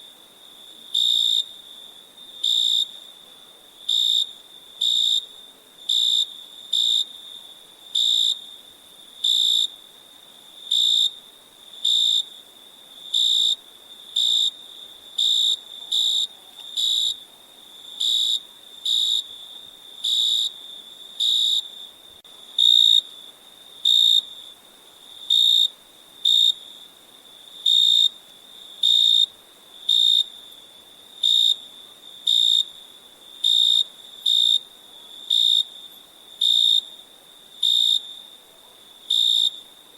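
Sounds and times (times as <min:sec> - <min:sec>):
cricket chirping: 0:00.0 - 0:39.9
faint background hiss: 0:00.0 - 0:39.9.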